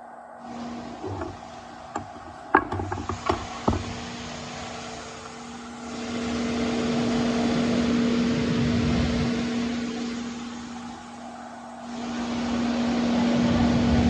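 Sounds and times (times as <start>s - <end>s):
mechanical hum: 0.0s - 14.0s
rushing noise: 0.0s - 14.0s.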